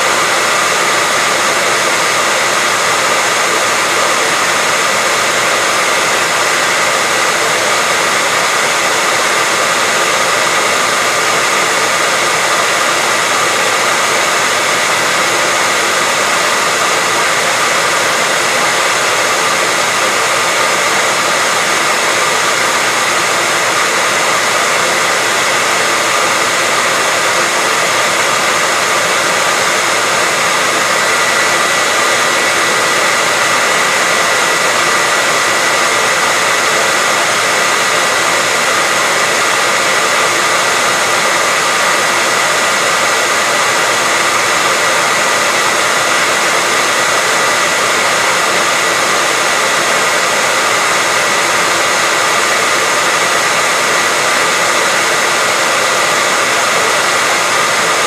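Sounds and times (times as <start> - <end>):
hairdryer running: 0.0 - 58.0.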